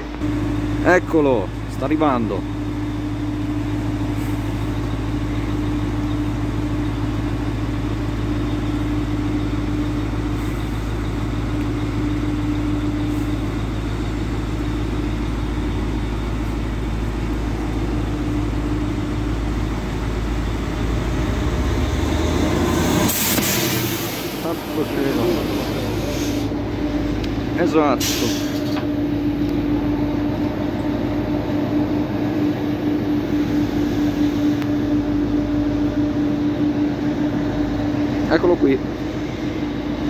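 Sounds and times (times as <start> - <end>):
train engine idling hum: 0.0 - 40.0
train passing by: 0.0 - 40.0.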